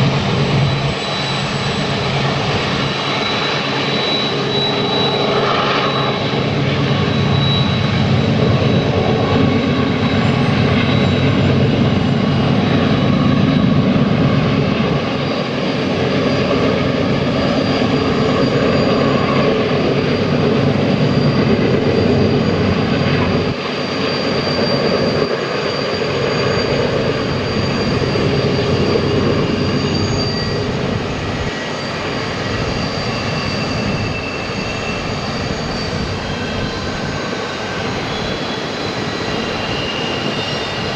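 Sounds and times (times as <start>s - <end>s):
faint high whines: 0.0s - 40.9s
train rumbling by: 0.0s - 40.9s.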